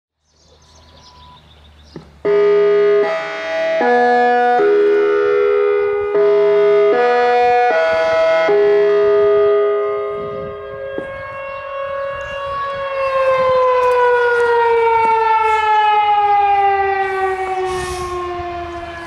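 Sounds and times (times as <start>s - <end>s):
warning siren chime melody: 0.7s - 1.5s, 2.2s - 19.0s.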